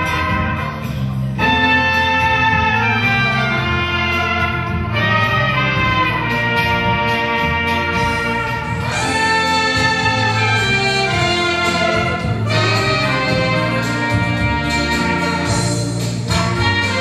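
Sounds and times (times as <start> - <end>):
brass band music: 0.0 - 17.0.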